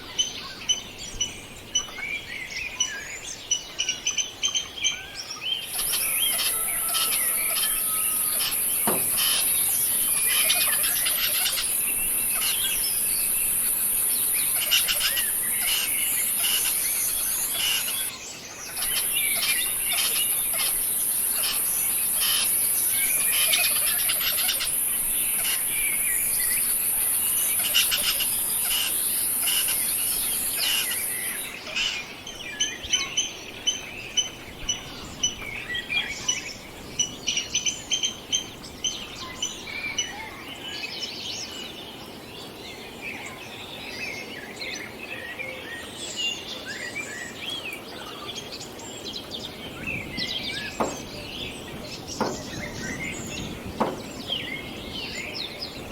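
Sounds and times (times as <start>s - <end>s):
birds chirping and calling: 0.1s - 40.1s, 47.7s - 55.9s.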